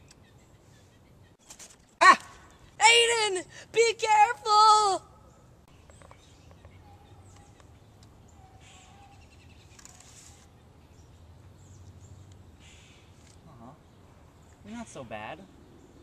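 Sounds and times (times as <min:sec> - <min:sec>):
rustling against branches: 0:00.0 - 0:03.7, 0:05.6 - 0:15.4.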